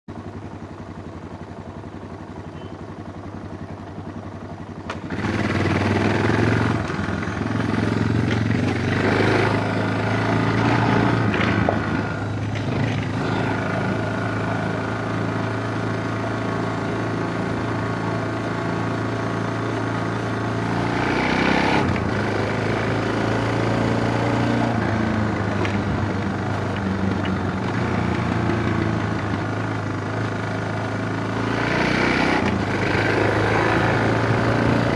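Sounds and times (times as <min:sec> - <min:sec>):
motorcycle engine revving: 0:00.9 - 0:34.9.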